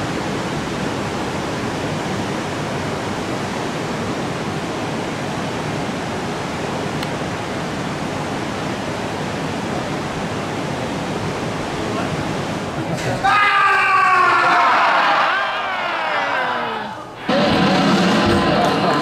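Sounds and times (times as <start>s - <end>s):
wind: 0.0s - 17.3s
ocean surf: 0.0s - 19.0s.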